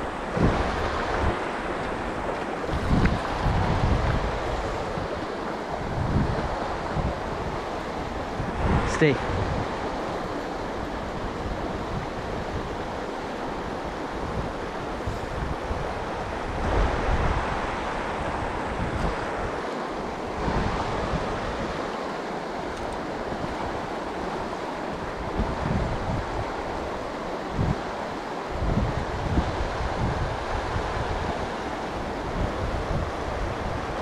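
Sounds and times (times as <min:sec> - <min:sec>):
river rushing over stones: 0:00.0 - 0:34.0
wind buffeting microphone: 0:00.0 - 0:34.0.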